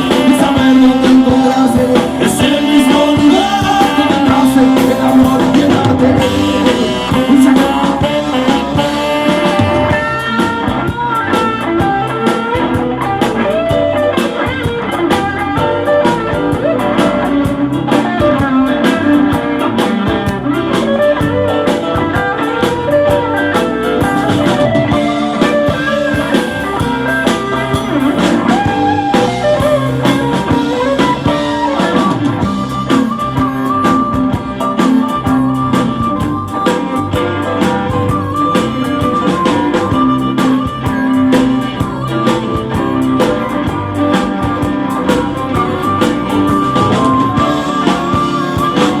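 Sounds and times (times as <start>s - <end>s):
lead guitar: 0.0s - 49.0s
steady drum beat: 0.0s - 49.0s.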